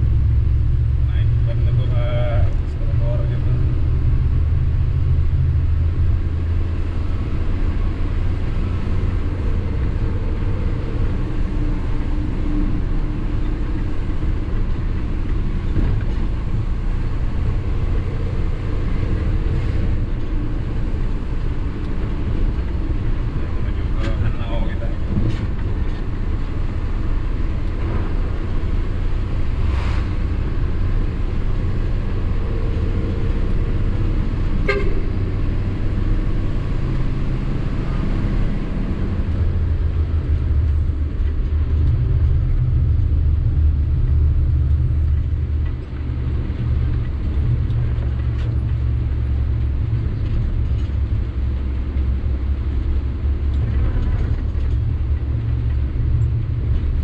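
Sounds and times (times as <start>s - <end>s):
diesel truck engine droning: 0.0s - 57.0s
road noise: 0.0s - 57.0s.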